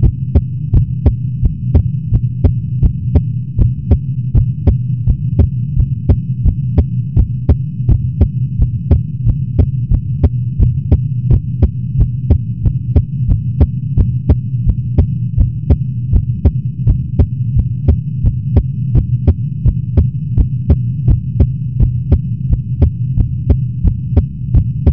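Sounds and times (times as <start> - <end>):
amplified heartbeat: 0.0 - 24.9.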